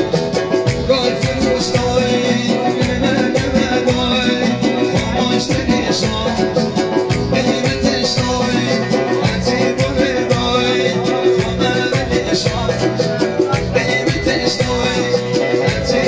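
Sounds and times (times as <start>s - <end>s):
live band music: 0.0s - 16.0s
man singing into a microphone: 0.0s - 16.0s.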